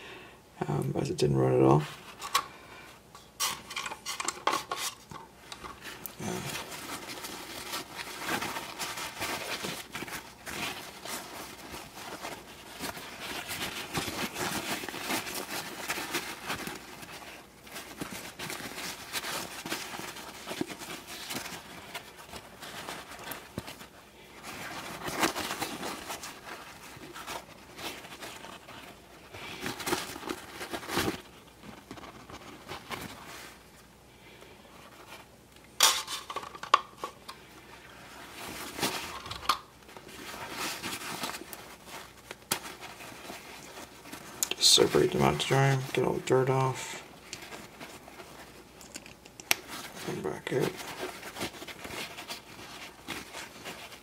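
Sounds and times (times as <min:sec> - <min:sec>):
paper towel rustling: 0:03.3 - 0:54.0.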